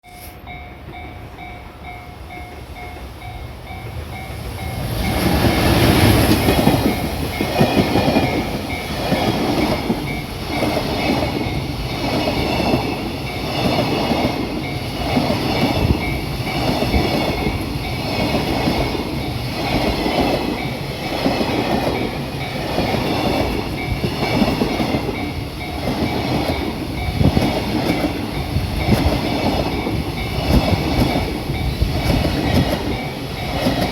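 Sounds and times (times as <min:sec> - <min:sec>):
electric locomotive: 0:00.0 - 0:33.9
train wheels clattering over rails: 0:00.8 - 0:33.9.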